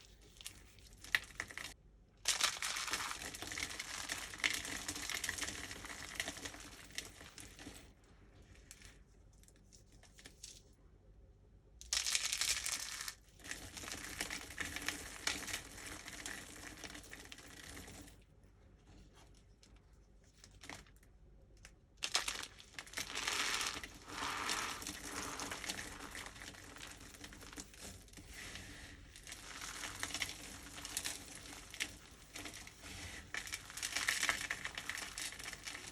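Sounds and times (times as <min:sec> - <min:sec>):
dry soap crackling and crunching: 0:00.0 - 0:10.7, 0:11.8 - 0:35.9.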